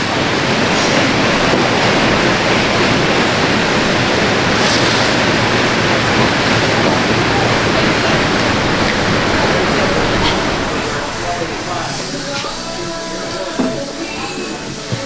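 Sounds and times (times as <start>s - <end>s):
air bike fans rushing: 0.0s - 15.0s.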